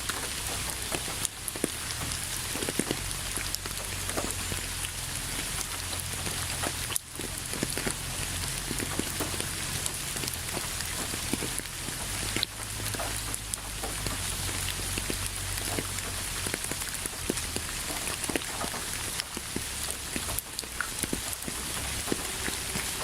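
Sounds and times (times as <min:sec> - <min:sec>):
rain on a hard surface: 0:00.0 - 0:23.0.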